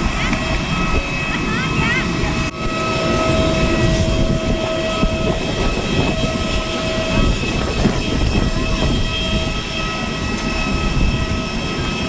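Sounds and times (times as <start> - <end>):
jet airliner roar and whine: 0.0 - 12.0.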